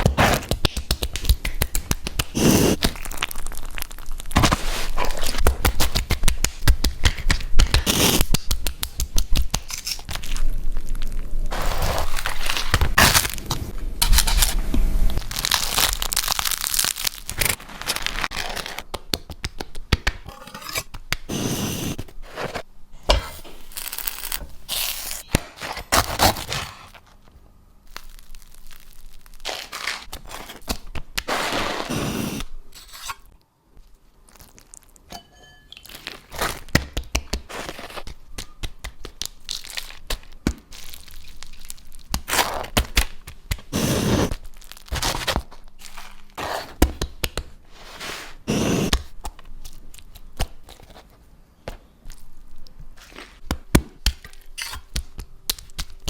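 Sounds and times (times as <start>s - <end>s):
crusty bread crackling and tearing: 0.1s - 14.6s, 15.2s - 21.2s, 23.6s - 32.3s, 33.8s - 35.1s, 35.8s - 48.0s, 52.0s - 56.0s.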